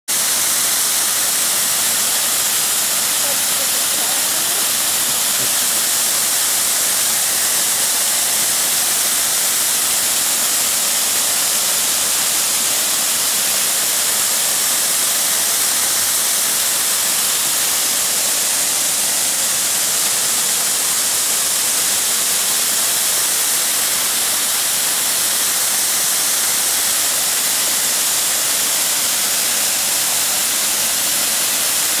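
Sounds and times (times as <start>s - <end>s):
waterfall splashing onto rocks: 0.1s - 32.0s.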